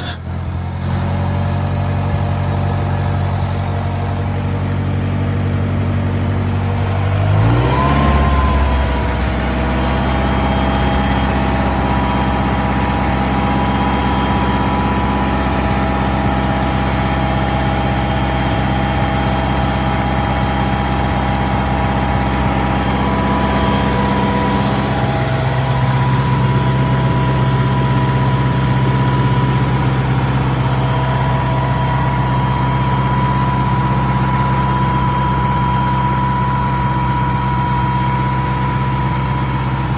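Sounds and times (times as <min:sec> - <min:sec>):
concrete saw engine running: 0:00.0 - 0:39.9.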